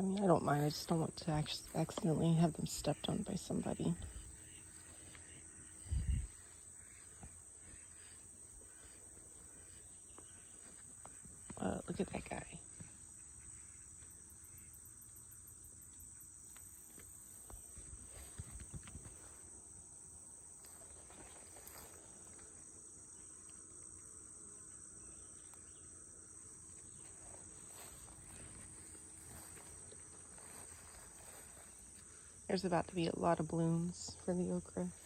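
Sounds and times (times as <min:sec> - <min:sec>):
insects chirping: 0:00.0 - 0:35.0.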